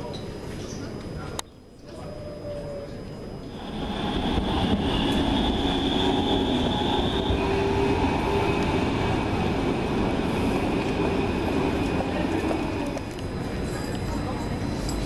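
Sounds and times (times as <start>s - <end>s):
high whine of tram drive: 0.2s - 15.0s
tram rolling past: 2.3s - 15.0s.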